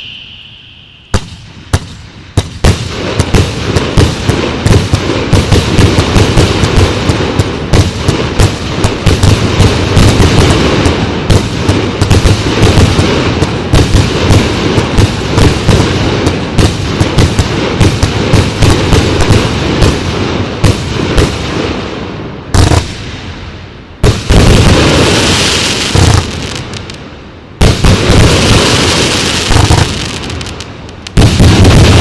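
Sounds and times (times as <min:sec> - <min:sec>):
fireworks barrage: 0:00.0 - 0:32.0
loud firework report: 0:00.0 - 0:32.0.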